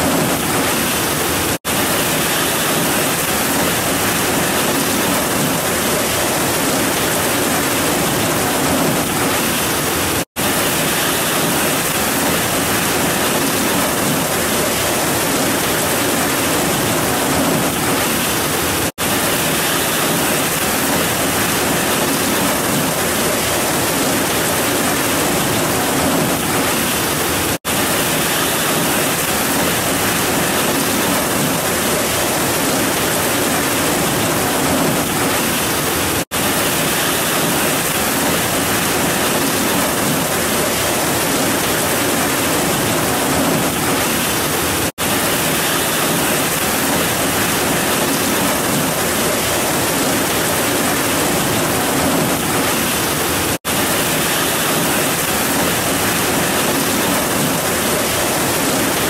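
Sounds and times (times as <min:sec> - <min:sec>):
heavy rain pouring on trees: 0:00.0 - 0:59.0.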